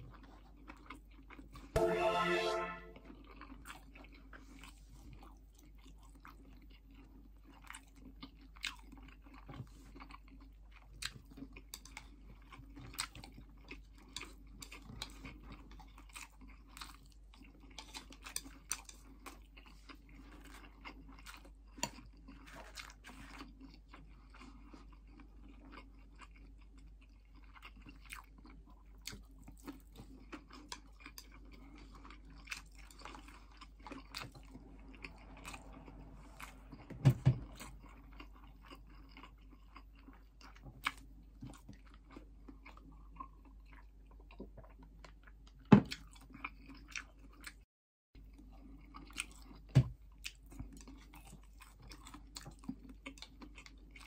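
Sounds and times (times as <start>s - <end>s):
person chewing food: 0.0s - 1.7s, 3.2s - 47.6s, 48.2s - 54.0s.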